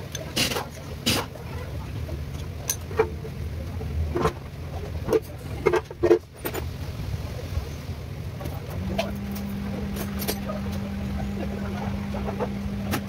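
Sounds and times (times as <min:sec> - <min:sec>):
car engine rumbling: 0:00.0 - 0:13.0
steady hum: 0:00.0 - 0:13.0.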